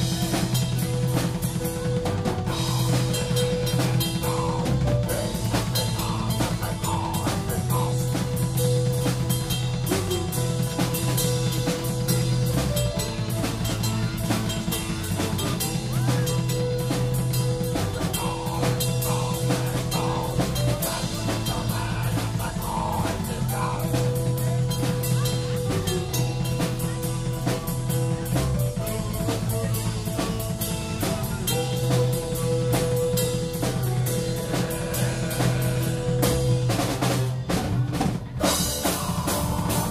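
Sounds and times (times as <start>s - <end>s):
drum kit beating fast: 0.0s - 39.9s
moving bass line: 0.0s - 39.9s.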